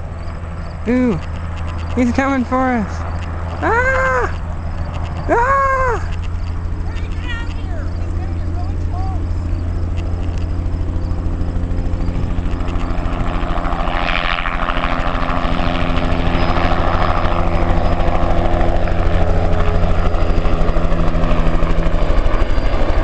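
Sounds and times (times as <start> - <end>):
helicopter engine hum: 0.0 - 23.0
helicopter rotor chopping: 0.0 - 23.0.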